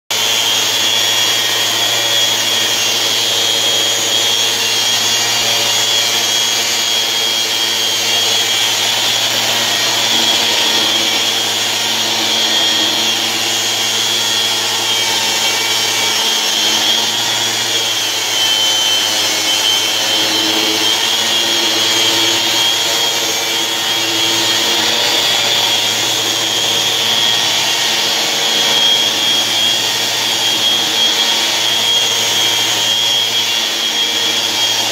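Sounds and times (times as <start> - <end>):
electric sander whining: 0.1 - 34.9.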